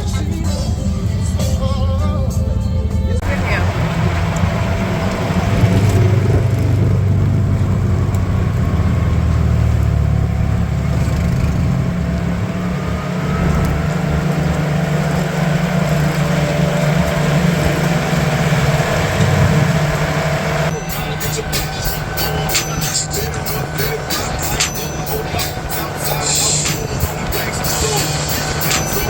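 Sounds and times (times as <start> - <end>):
vehicle engine running: 0.0 - 29.0
faint whine rising in pitch: 3.2 - 29.0.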